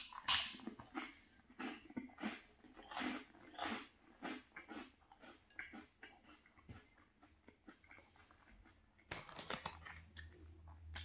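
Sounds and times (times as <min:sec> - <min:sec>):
wet crunchy chewing: 0:00.0 - 0:10.4.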